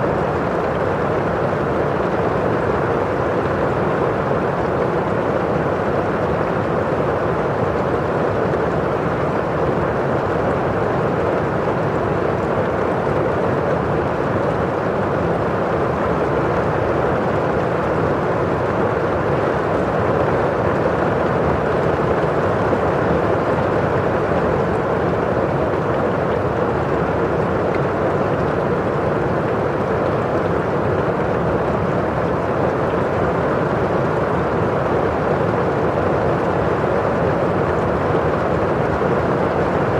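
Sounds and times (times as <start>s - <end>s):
steady muffled rain: 0.0s - 39.9s.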